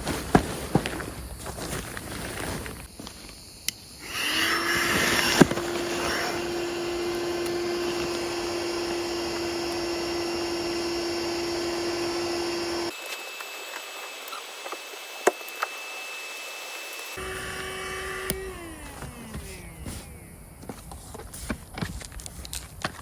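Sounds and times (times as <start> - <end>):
electric air pump humming: 0.0 - 23.0.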